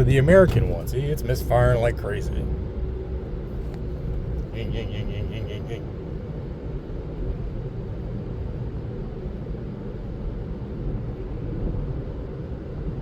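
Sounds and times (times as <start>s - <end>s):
misfiring car engine rumble: 0.0s - 10.4s
road noise: 0.0s - 13.0s.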